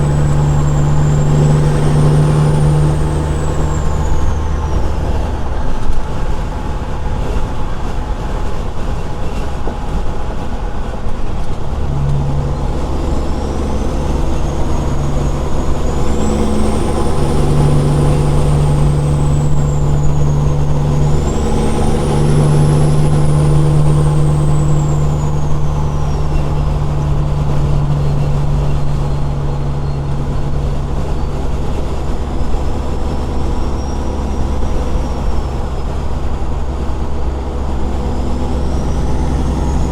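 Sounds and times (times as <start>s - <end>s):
diesel truck engine: 0.0s - 39.9s.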